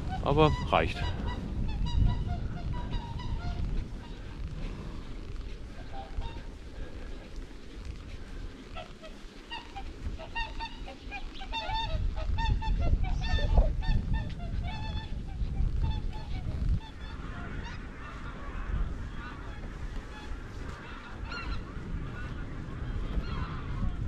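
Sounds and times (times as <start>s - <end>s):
geese honking: 0.0s - 4.4s, 5.7s - 6.9s, 8.7s - 24.0s
wind rumble on microphone: 0.0s - 24.0s.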